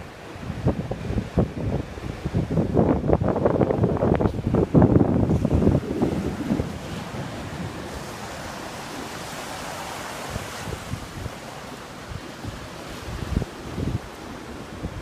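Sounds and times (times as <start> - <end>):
surf washing on shore: 0.0 - 15.0
wind buffeting microphone: 0.0 - 15.0.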